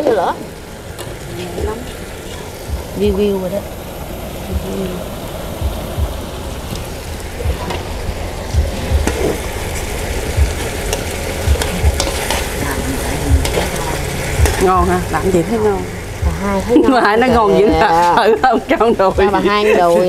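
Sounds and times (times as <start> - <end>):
chicken sizzling in a wok: 0.0 - 19.7.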